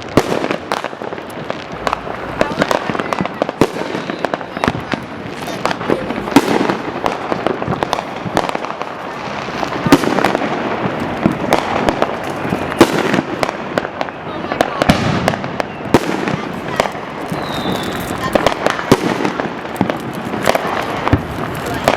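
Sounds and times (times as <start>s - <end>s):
fireworks bangs and crackling: 0.0s - 21.9s.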